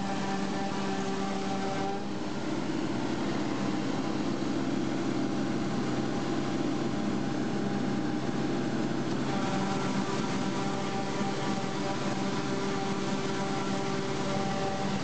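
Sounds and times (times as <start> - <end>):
forage harvester droning: 0.0 - 15.0
tractor engine running: 0.0 - 15.0.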